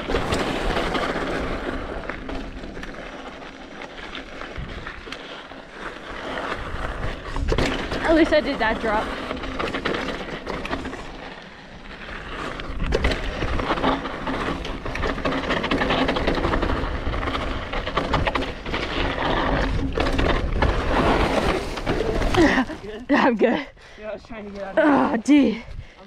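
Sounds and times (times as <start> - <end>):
bike rattling: 0.0 - 26.0
tyres crunching over dirt: 0.0 - 26.0.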